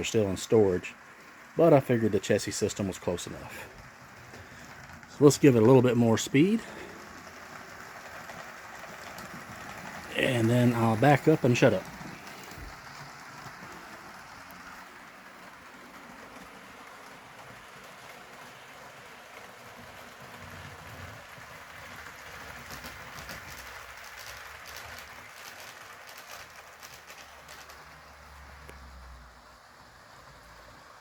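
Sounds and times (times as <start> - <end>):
model train wheels rolling on rails: 0.0 - 31.0.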